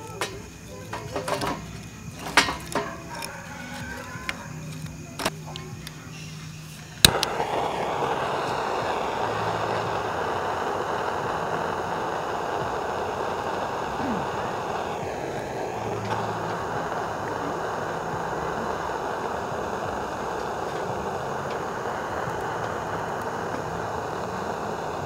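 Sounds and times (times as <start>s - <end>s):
torch flame hissing: 0.0s - 25.0s
torch lighter click: 0.0s - 25.0s.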